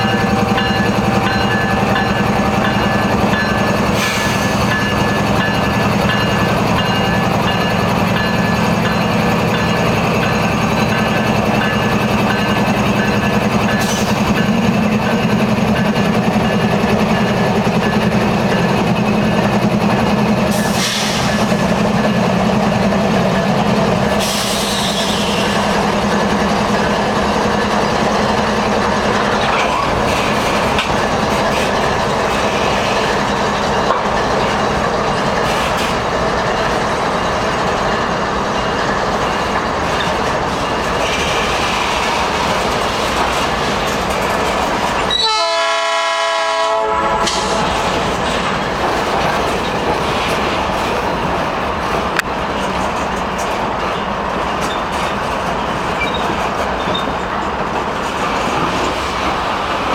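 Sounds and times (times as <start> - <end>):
diesel locomotive engines: 0.0 - 59.9
freight cars rolling on rails: 0.0 - 59.9.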